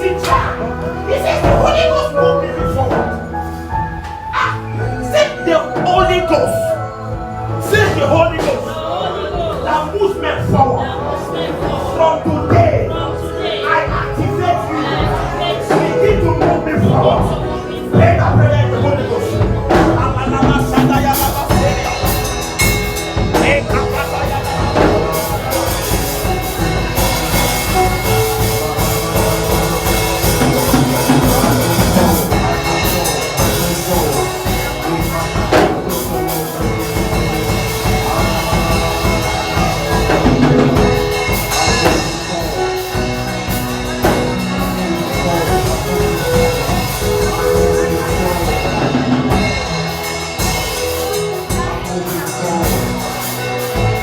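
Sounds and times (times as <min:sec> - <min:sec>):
drum kit beat: 0:00.0 - 0:54.0
keyboard chords: 0:00.0 - 0:54.0
voices singing: 0:00.0 - 0:54.0.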